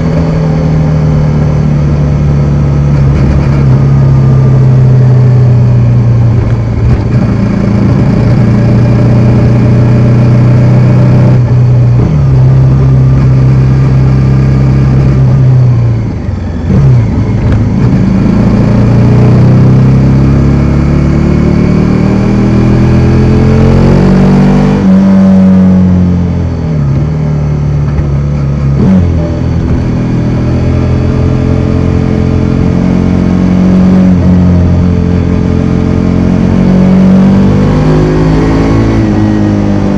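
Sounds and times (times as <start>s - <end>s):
motorcycle engine running: 0.0s - 24.0s, 24.9s - 39.9s.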